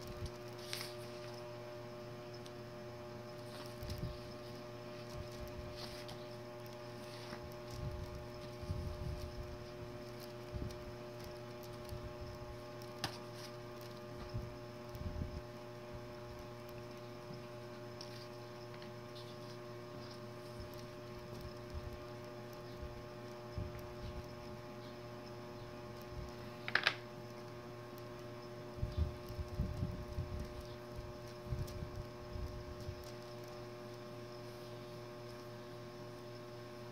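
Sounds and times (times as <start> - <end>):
electrical hum: 0.0 - 36.9.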